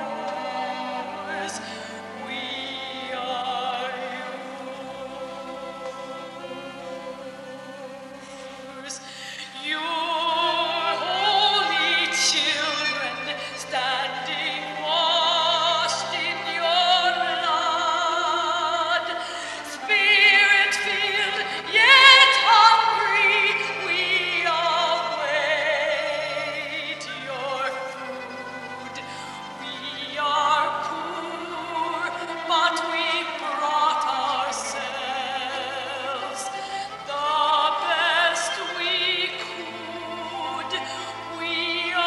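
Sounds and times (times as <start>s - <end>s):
soprano singing opera: 0.0s - 42.0s.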